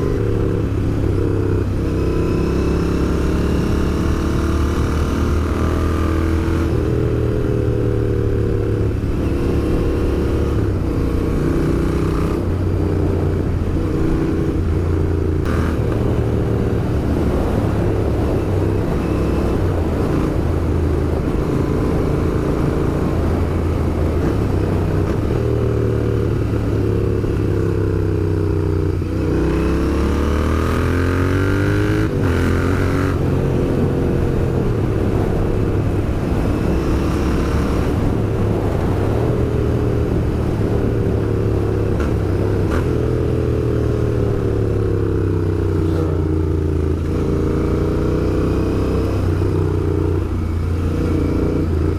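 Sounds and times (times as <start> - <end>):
motorcycle engine and exhaust: 0.0 - 51.9.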